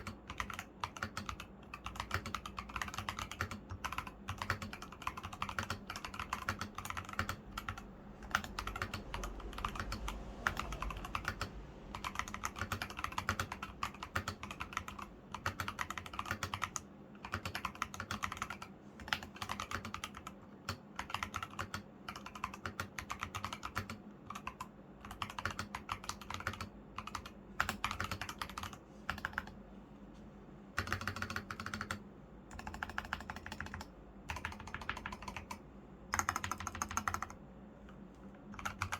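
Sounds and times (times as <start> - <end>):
mechanical keyboard typing: 0.0 - 29.6, 30.8 - 37.4, 38.5 - 38.9.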